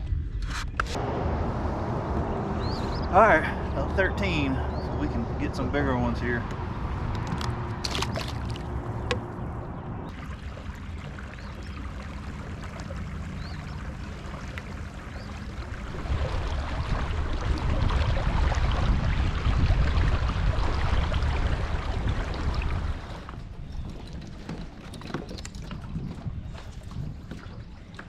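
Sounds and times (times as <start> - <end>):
low rumble: 0.0 - 24.2
water lapping against kayak: 2.6 - 28.0.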